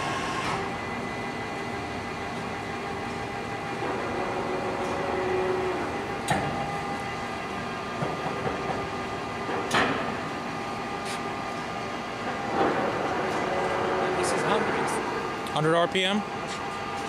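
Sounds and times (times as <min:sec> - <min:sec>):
lathe hum and gear whine: 0:00.0 - 0:17.0.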